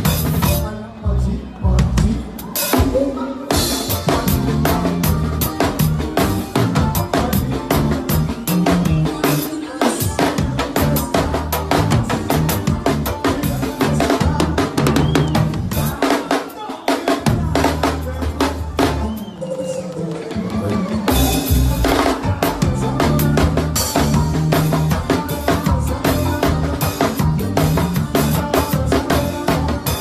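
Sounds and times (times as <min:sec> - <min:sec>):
band recording with bass and keyboard: 0:00.0 - 0:16.3, 0:17.1 - 0:30.0.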